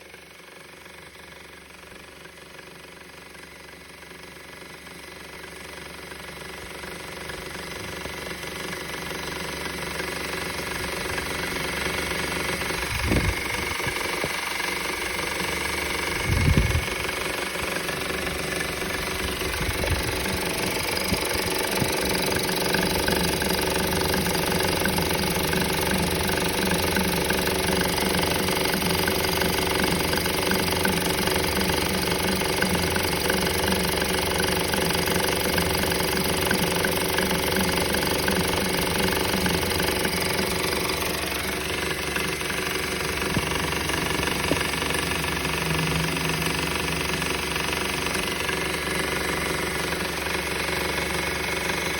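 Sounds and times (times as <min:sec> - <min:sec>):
car engine running: 0:00.0 - 0:51.9
engine rattling: 0:00.0 - 0:51.9.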